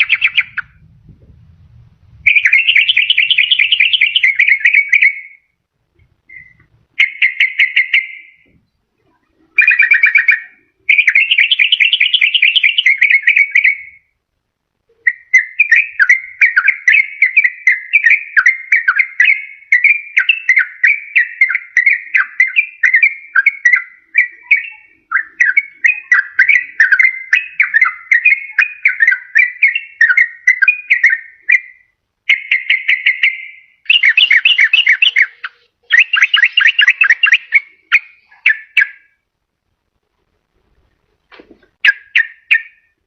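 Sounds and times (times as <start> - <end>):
bulbul singing: 0.0 - 1.3, 2.0 - 14.2, 14.8 - 39.3, 41.6 - 43.0.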